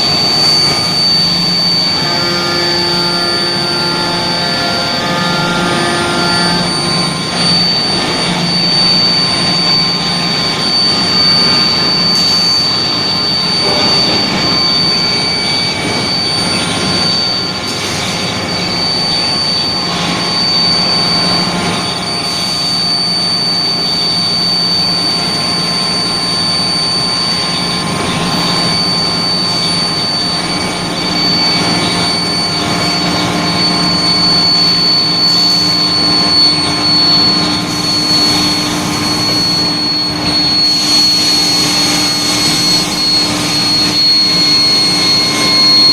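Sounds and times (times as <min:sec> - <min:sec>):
dense machine drone: 0:00.0 - 0:45.9
high machine whine: 0:00.0 - 0:45.9.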